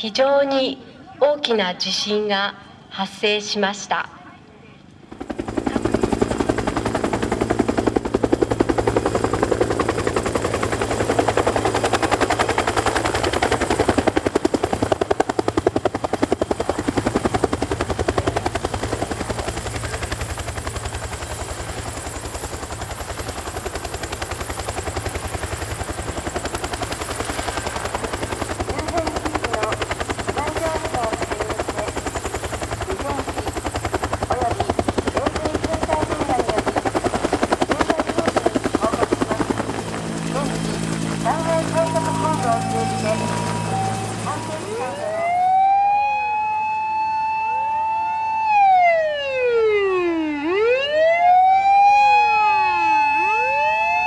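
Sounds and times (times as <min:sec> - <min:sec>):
turbine engine whine: 0:04.9 - 0:54.0
helicopter rotor beating: 0:05.0 - 0:48.7.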